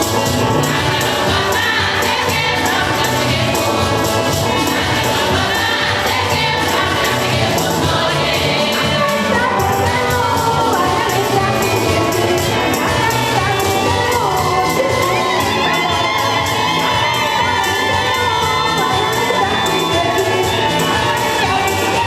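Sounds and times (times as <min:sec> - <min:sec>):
group singing gospel: 0:00.0 - 0:22.0
steady percussion beat: 0:00.0 - 0:22.0.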